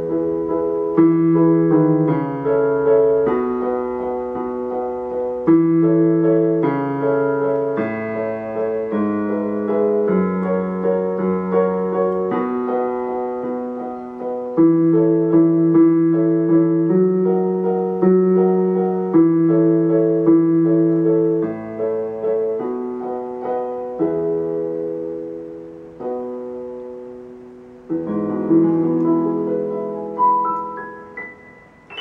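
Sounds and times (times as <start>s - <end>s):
high piano notes climbing: 0.0s - 25.4s, 26.0s - 32.0s
piano chords on digital keyboard: 0.0s - 32.0s.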